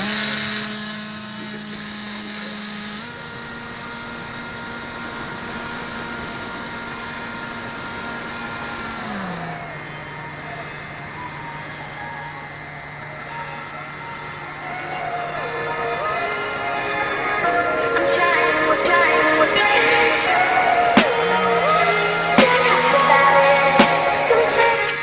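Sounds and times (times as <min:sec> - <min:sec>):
model plane motor whine: 0:00.0 - 0:25.0.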